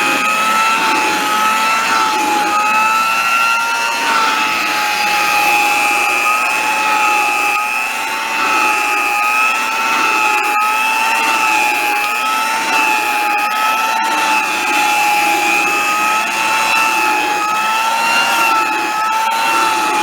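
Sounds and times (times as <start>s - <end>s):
hand vacuum cleaner motor whine: 0.0s - 20.0s.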